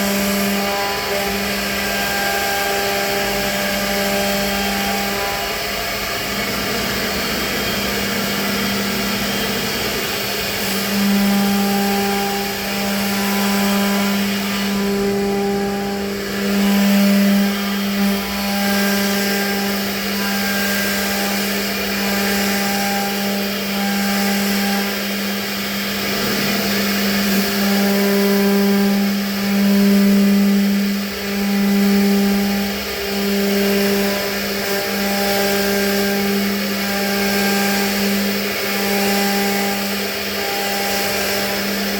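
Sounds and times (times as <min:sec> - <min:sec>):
router spindle cutting wood: 0:00.0 - 0:41.9.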